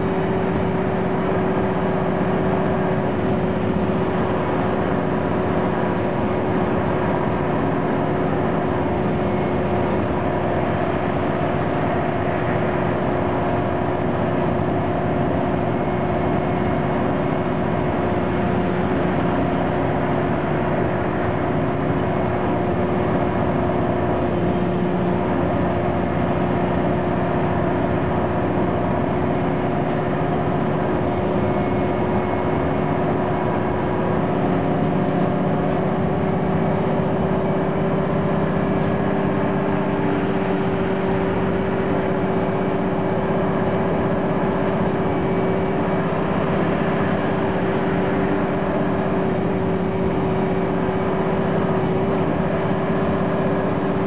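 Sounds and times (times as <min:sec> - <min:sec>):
bus engine drone: 0:00.0 - 0:54.0
road noise: 0:00.0 - 0:54.0
transmission whine: 0:00.0 - 0:54.0.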